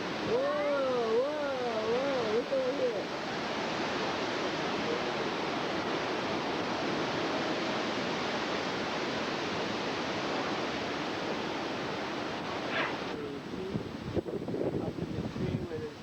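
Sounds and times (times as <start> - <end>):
hurricane wind blowing hard: 0.0 - 16.0.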